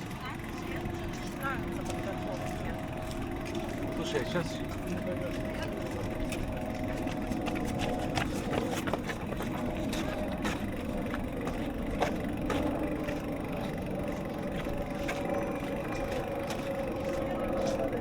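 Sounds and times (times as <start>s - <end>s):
street noise low rumble: 0.0s - 18.0s
bicycle clicks: 0.4s - 18.0s.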